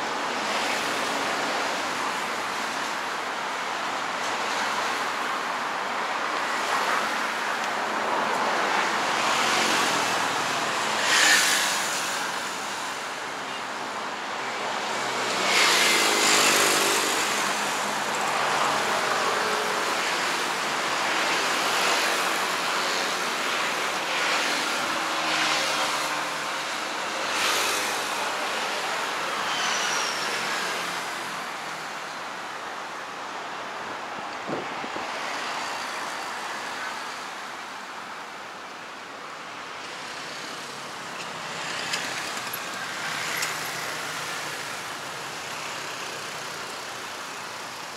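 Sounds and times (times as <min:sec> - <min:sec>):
vehicles passing by: 0:00.0 - 0:47.9.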